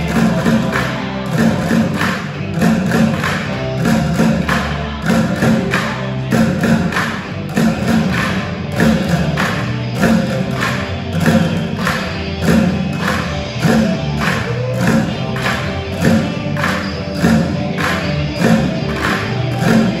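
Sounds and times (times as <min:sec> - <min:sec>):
drumming on plastic buckets: 0:00.0 - 0:20.0.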